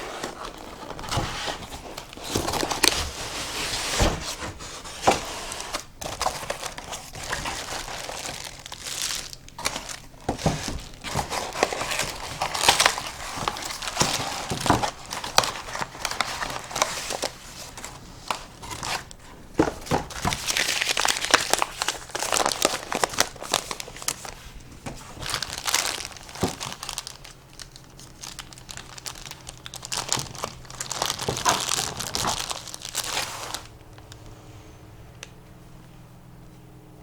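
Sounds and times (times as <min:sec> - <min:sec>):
packaging crinkling: 0:00.0 - 0:34.2.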